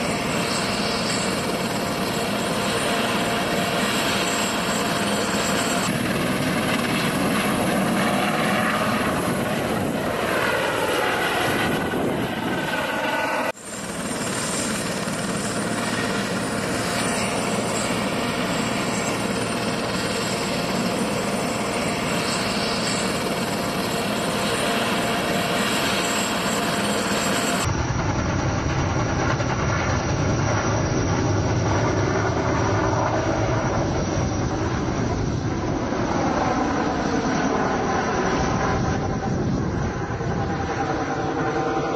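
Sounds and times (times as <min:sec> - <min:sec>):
helicopter turbine and rotor: 0:00.0 - 0:41.9.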